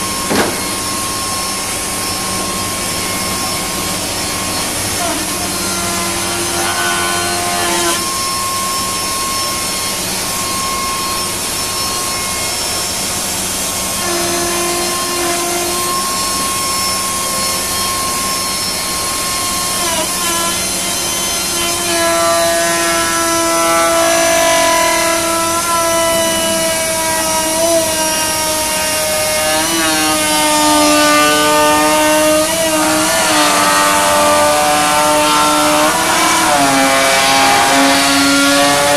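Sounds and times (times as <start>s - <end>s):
router spindle cutting plastic: 0.0s - 12.7s, 13.4s - 38.9s.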